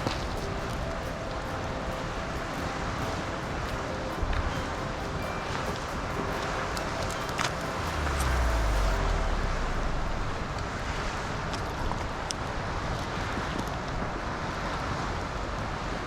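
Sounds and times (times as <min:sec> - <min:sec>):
steady rushing hiss: 0:00.0 - 0:13.4.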